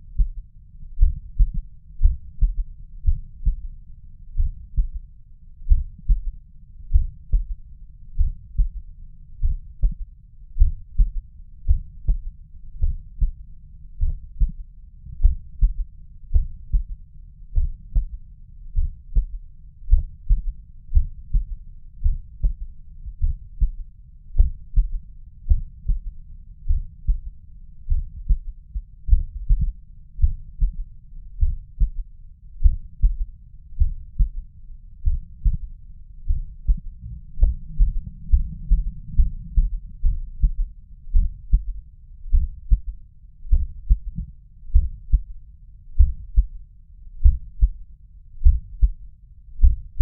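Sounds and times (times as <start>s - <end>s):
heartbeat thumps: 0.0s - 45.4s, 46.0s - 46.6s, 47.2s - 47.8s, 48.4s - 49.0s, 49.6s - 50.0s.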